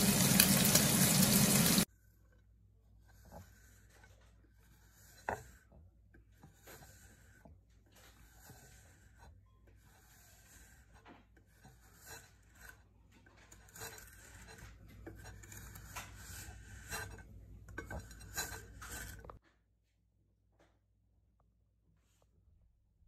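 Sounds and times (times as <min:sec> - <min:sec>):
cheese grating on metal grater: 0:00.0 - 0:19.4.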